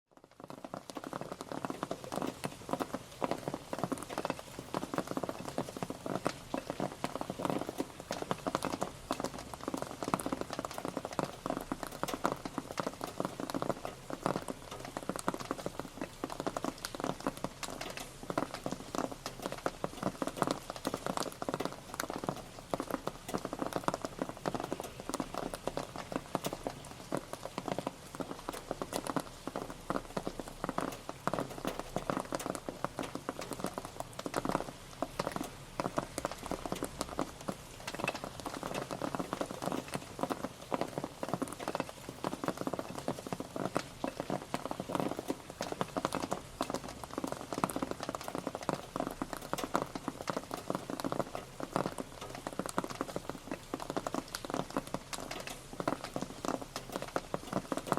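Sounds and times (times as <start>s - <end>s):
steady rain pattering: 0.1s - 57.9s.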